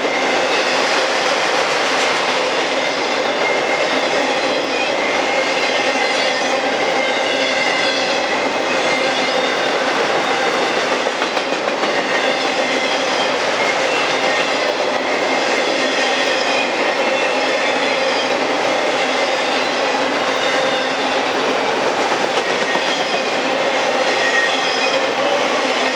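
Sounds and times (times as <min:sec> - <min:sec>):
train wheels on rail: 0:00.0 - 0:25.9.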